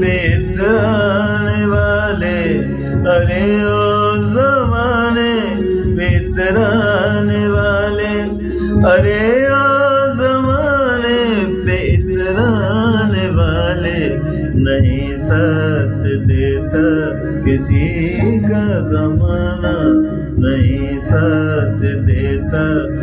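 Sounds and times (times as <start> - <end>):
man singing long held notes: 0.0 - 23.0
steady low drone: 0.0 - 23.0.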